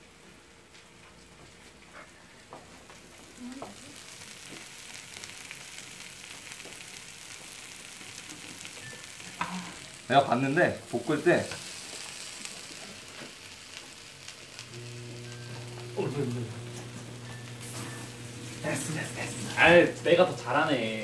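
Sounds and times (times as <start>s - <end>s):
food sizzling in a pan: 2.0s - 21.0s.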